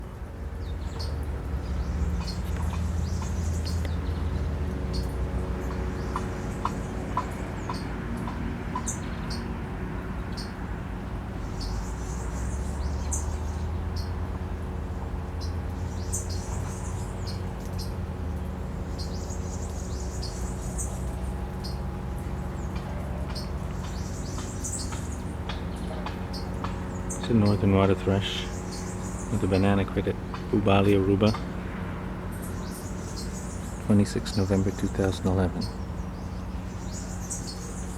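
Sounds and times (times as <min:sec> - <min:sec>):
songbirds chipping and squeaking: 0:00.0 - 0:37.9
steady low hum: 0:00.0 - 0:37.9.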